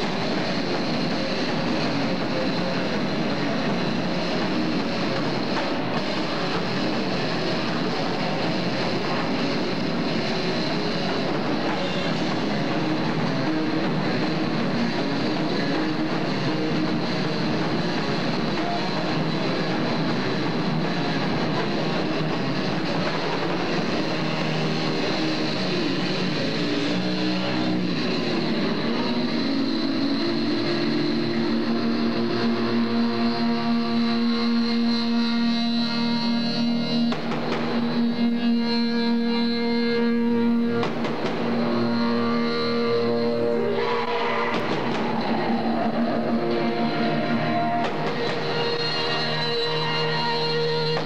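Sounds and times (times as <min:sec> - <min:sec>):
loud live rock band: 0:00.0 - 0:51.0.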